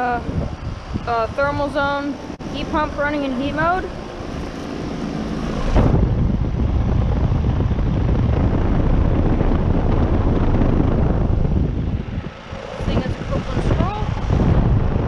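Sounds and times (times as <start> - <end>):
heat pump humming: 0.0 - 15.0.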